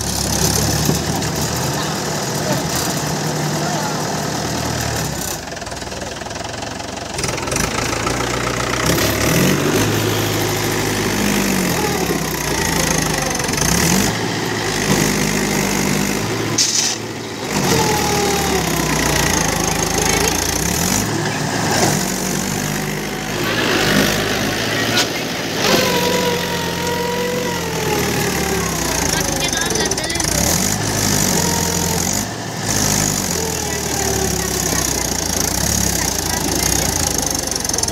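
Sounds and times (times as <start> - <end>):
tractor diesel engine revving: 0.0 - 37.9.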